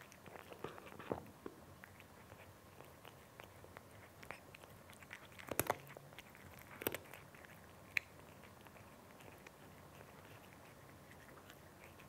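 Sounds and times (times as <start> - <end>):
cat chewing dry kibble: 0.0 - 12.0.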